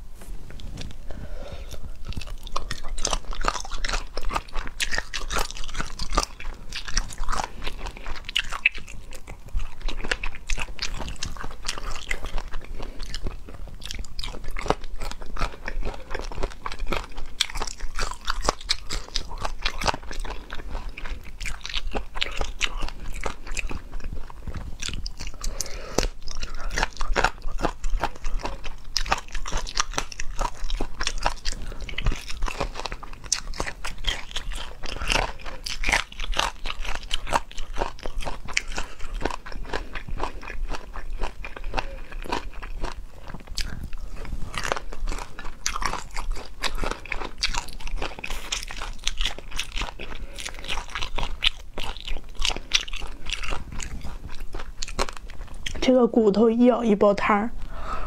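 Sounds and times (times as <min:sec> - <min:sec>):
chewing and crunching food: 0:00.3 - 0:58.0.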